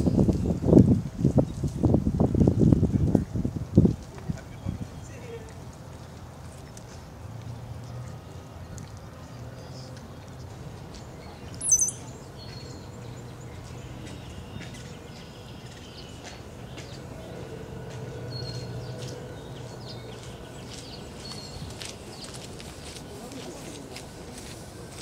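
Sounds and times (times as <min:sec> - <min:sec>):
songbirds chirping: 0:04.1 - 0:25.0.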